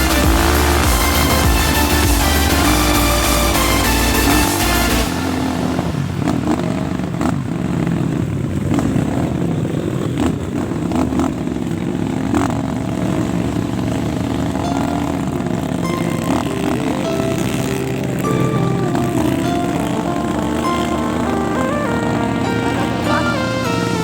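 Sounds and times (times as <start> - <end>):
motorcycle engines idling: 0.0 - 24.0.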